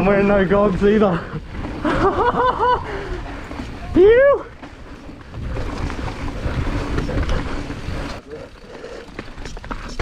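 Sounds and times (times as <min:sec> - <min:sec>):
bike rattling: 0:00.0 - 0:10.0
bike tyres rumbling over dirt: 0:00.0 - 0:10.0
wind buffeting microphone: 0:00.0 - 0:10.0.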